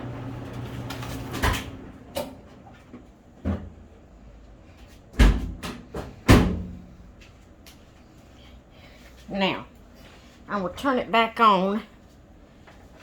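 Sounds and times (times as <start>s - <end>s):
clothes dryer humming: 0.0s - 13.0s.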